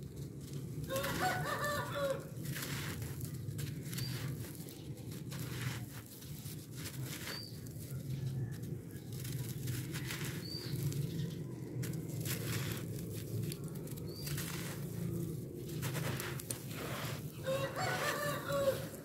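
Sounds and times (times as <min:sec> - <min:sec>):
soil and pebbles crunching: 0:00.0 - 0:19.0
steady low hum: 0:00.0 - 0:19.0.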